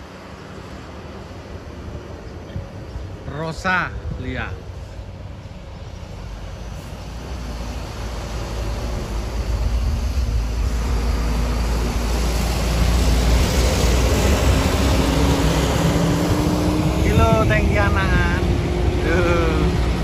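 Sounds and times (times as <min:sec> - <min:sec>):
bus diesel engine passing: 0:00.0 - 0:20.0.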